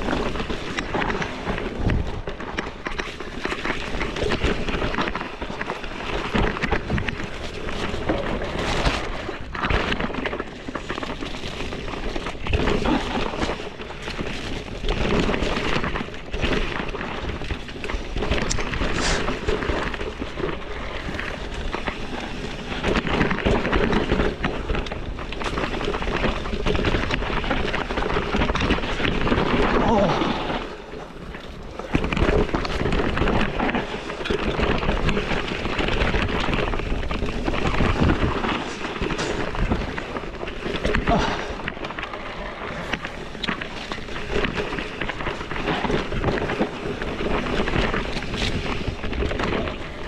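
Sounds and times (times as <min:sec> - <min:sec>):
bike frame rattling: 0:00.0 - 0:50.0
tyres crunching over dirt: 0:00.0 - 0:50.0.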